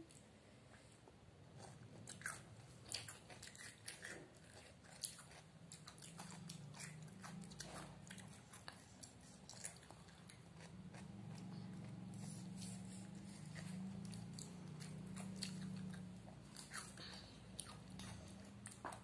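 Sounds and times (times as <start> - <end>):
crunching and chewing cucumber: 1.5 - 19.0.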